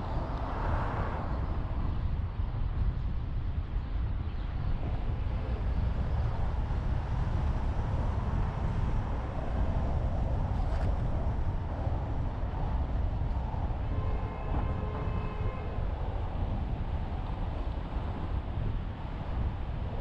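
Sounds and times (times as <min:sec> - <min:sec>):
car road noise rumble: 0:00.0 - 0:20.0.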